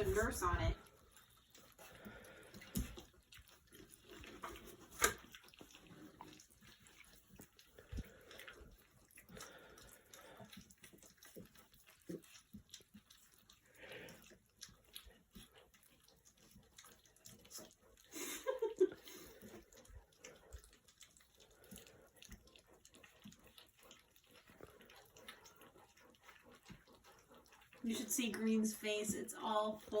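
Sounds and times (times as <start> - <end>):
puppies lapping and slurping: 0.0 - 30.0.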